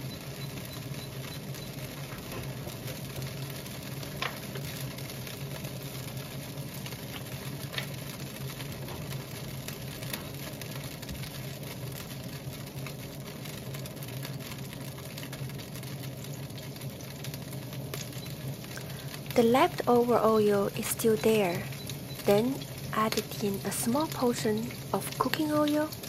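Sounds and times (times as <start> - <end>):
hot oil crackling in a wok: 0.0 - 26.0
low mechanical hum: 0.0 - 26.0.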